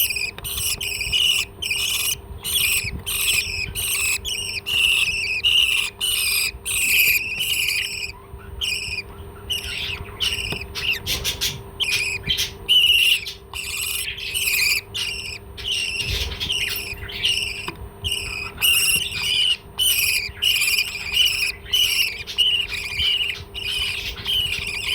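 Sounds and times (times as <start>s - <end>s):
faint steady hum: 0.0s - 24.9s
parrot high chirps: 0.0s - 24.9s.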